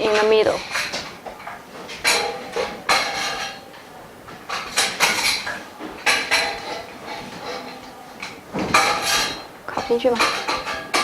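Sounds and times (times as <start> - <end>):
metal frame bars knocking and clinking: 0.0 - 3.8, 4.5 - 11.0.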